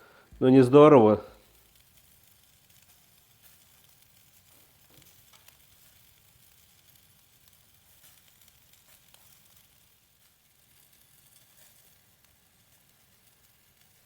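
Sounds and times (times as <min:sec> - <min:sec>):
coals crackling and popping: 0:00.0 - 0:14.0
meat sizzling on coals: 0:00.0 - 0:14.0.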